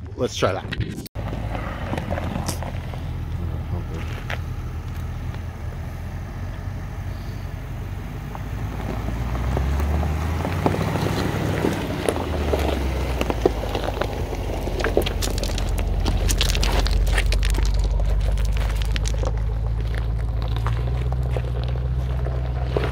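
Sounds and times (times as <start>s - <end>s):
engine and drivetrain rumble: 0.0s - 22.9s
stones crunching under tyres: 1.2s - 22.9s.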